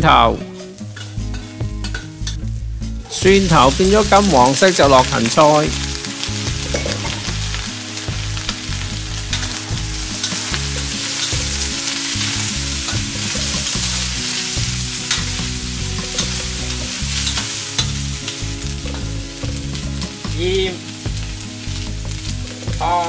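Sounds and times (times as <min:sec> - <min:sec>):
vegetables sizzling in hot oil: 0:00.4 - 0:23.0.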